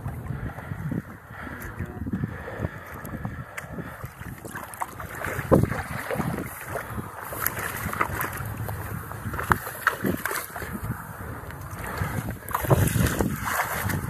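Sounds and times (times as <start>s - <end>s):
waders sloshing through water: 0.0s - 14.0s.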